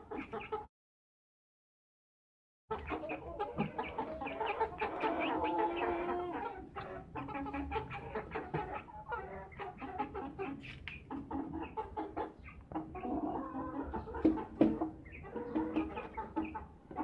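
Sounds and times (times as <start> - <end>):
chickens clucking: 0.0 - 0.7, 2.7 - 17.0.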